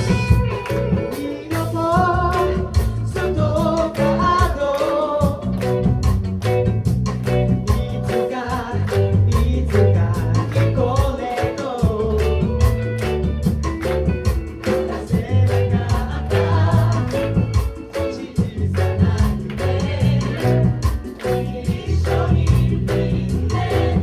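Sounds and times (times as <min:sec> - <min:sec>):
guitar: 0:00.0 - 0:24.0
live band playing: 0:00.0 - 0:24.0
voices singing together: 0:00.9 - 0:05.9, 0:07.6 - 0:12.4, 0:14.4 - 0:24.0.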